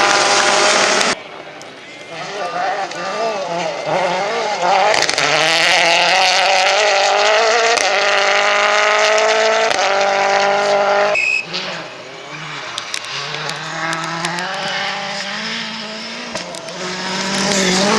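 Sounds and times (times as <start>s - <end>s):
rally car engine passing: 0.0s - 17.9s.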